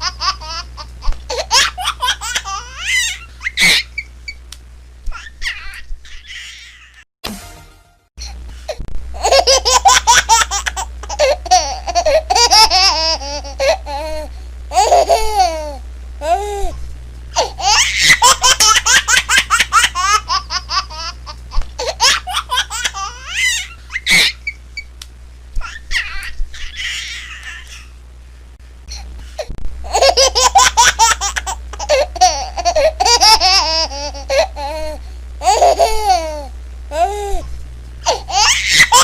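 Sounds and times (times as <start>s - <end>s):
baby laughing and squealing: 0.0s - 4.1s, 5.1s - 7.0s, 9.2s - 16.4s, 17.4s - 24.9s, 25.6s - 27.9s, 29.9s - 37.4s, 38.0s - 39.0s
low steady hum: 0.0s - 39.0s.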